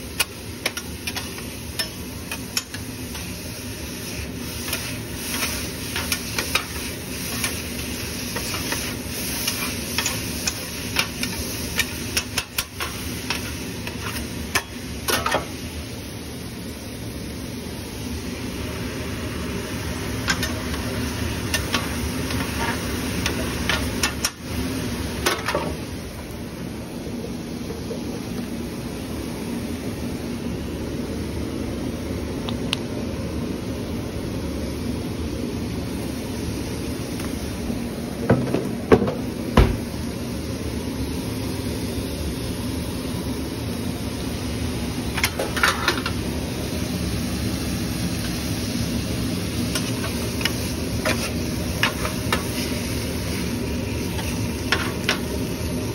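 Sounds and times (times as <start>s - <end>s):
kitchen fan humming: 0.0s - 55.9s.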